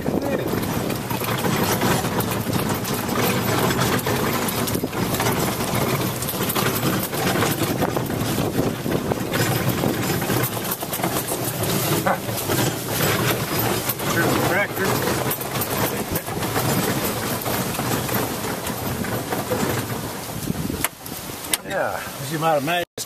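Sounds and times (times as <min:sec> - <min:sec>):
small vehicle engine running: 0:00.0 - 0:22.0.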